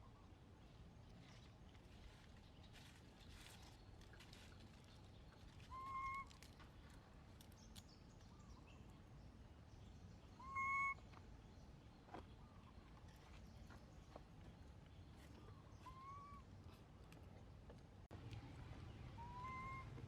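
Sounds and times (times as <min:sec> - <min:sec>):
faint background noise: 0:00.0 - 0:20.0.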